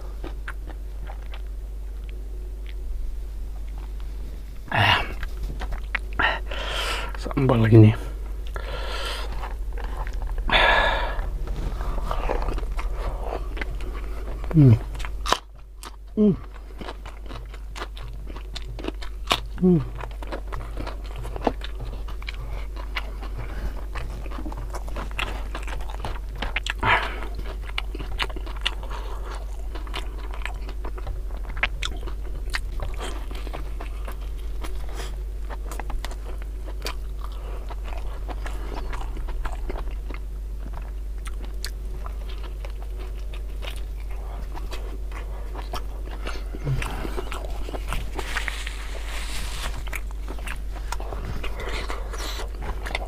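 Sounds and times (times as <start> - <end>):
man chewing food: 0.0 - 53.0.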